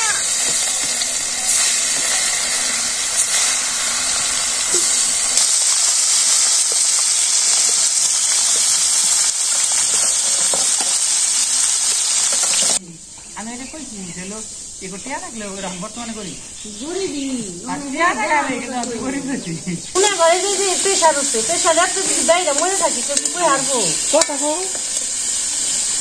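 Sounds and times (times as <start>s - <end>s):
fish sizzling in hot oil: 0.0s - 15.2s, 19.9s - 26.0s.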